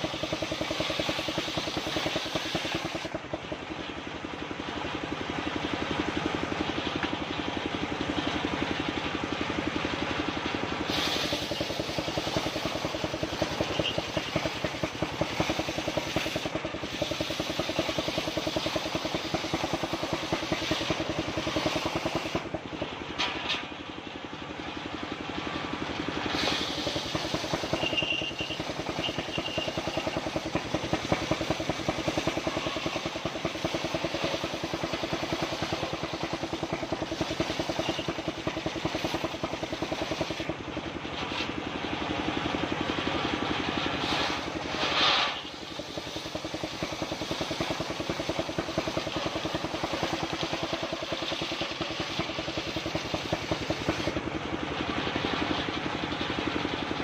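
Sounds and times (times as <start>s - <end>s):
circular saw engine chugging: 0.0s - 57.0s.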